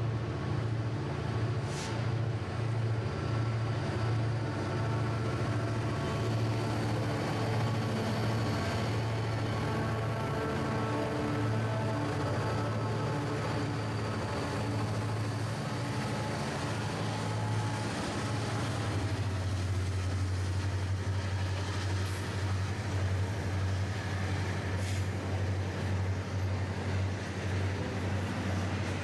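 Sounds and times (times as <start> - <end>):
locomotive running: 0.0 - 29.0.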